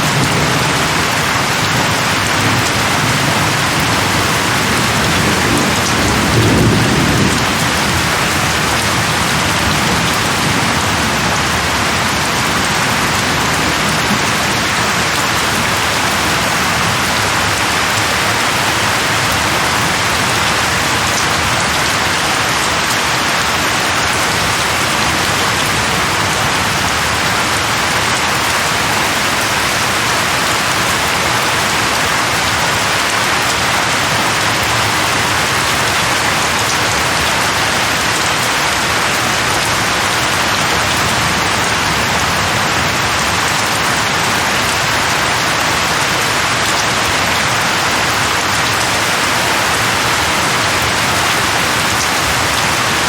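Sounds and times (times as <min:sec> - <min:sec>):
heavy rain on a surface: 0:00.0 - 0:53.0.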